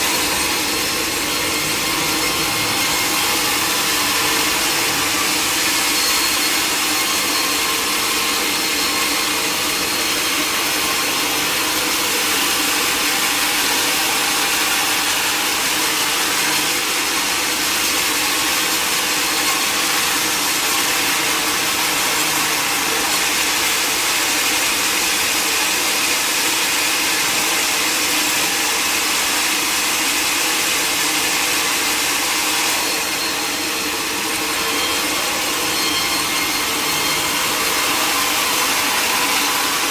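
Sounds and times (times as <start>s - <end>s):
power saw cutting log: 0.0s - 39.9s.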